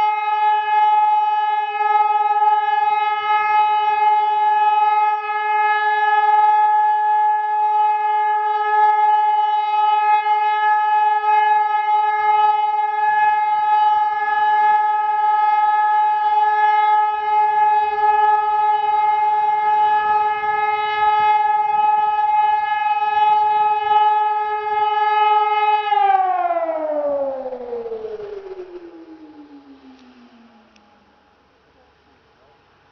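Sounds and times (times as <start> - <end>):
steady siren tone: 0.0 - 31.5.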